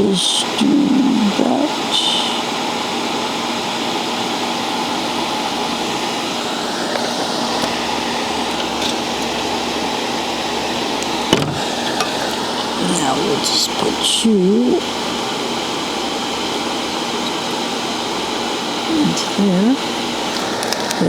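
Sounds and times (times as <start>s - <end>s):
extractor fan rushing air: 0.0s - 21.0s.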